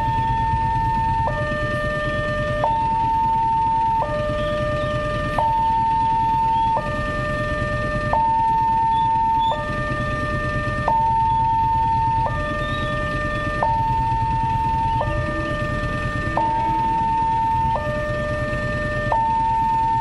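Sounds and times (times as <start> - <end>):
level crossing warning alarm: 0.0 - 20.0
low steady rumble: 0.0 - 20.0.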